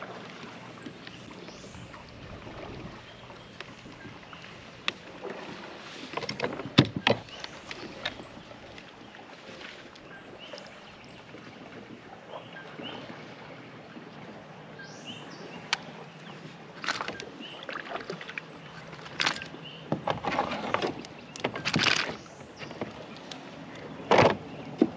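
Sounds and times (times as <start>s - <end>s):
water and wind hiss: 0.0s - 24.9s.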